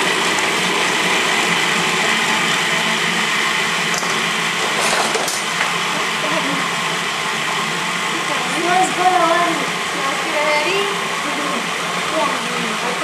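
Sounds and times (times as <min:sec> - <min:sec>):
food processor running: 0:00.0 - 0:13.0.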